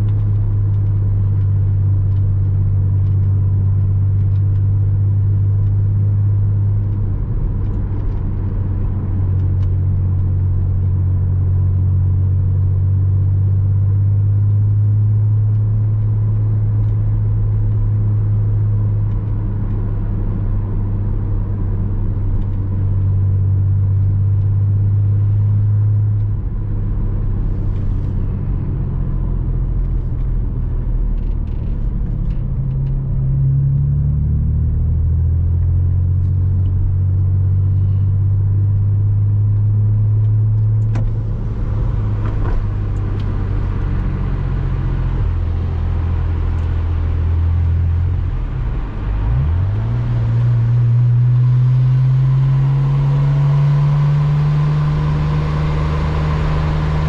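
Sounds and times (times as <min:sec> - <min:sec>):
car engine droning: 0:00.0 - 0:57.0
tyre and road rumble: 0:00.0 - 0:57.0.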